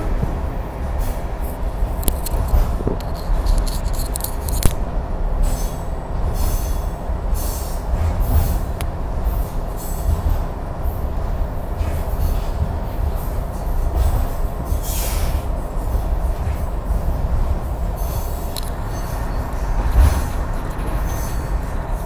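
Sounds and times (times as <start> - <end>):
train carriage rumble: 0.0 - 22.0.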